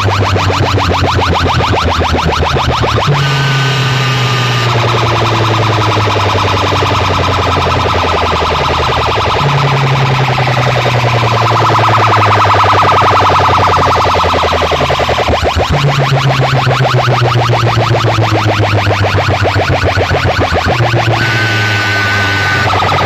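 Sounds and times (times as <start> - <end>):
electronic siren sound effect: 0.0 - 23.0
held bass tone: 0.0 - 23.0.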